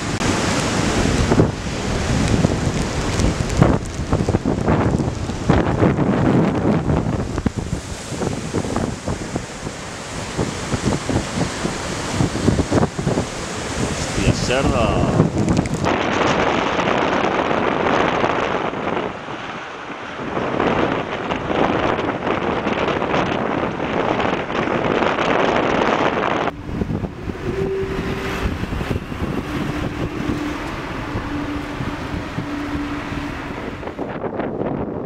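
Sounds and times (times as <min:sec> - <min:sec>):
rough sea surging against wall: 0:00.0 - 0:35.0
wind buffeting microphone: 0:00.0 - 0:35.0.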